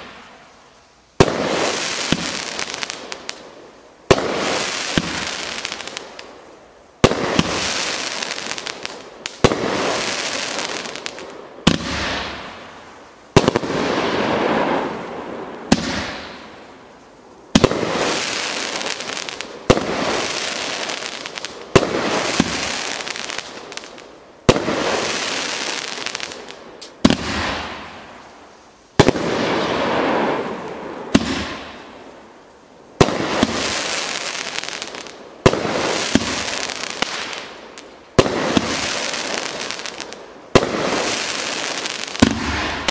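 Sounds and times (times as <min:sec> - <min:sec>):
firework bangs with hissing tails: 0:00.0 - 0:42.9.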